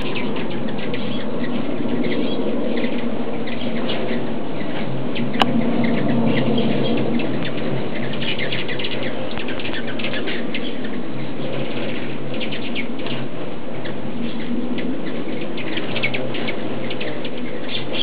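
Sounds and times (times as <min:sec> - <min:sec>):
hummingbird chips and squeaks: 0:00.0 - 0:18.0
hummingbird wings humming: 0:00.0 - 0:18.0.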